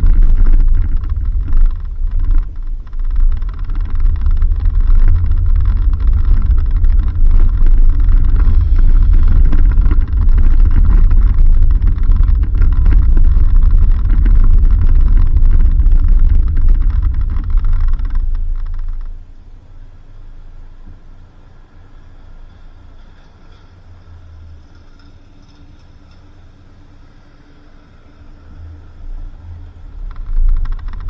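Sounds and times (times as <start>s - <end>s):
vehicle rumbling on dirt road: 0.0s - 31.0s.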